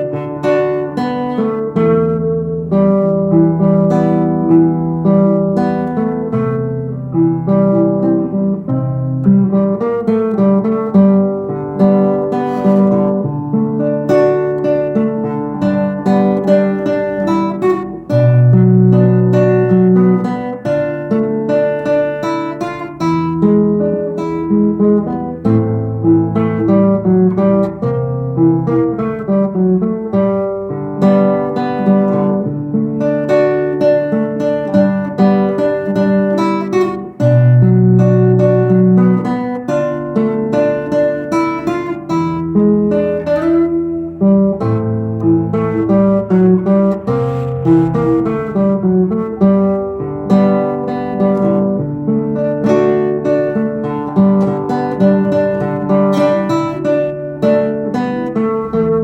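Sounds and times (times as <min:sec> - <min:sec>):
acoustic guitar tune: 0:00.0 - 0:59.0.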